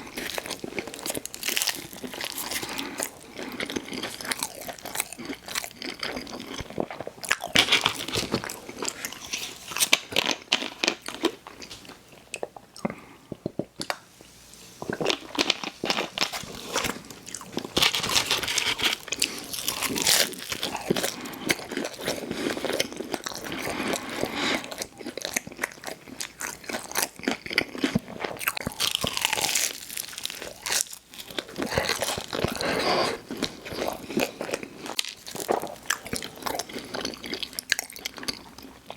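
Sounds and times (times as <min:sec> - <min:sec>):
person chewing crunchy food: 0:00.0 - 0:14.1, 0:14.8 - 0:38.9.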